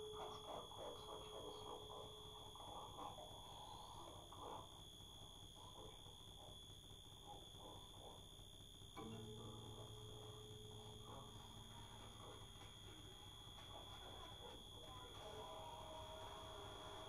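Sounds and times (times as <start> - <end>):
low held electronic tone: 0.0 - 8.1, 9.0 - 17.0.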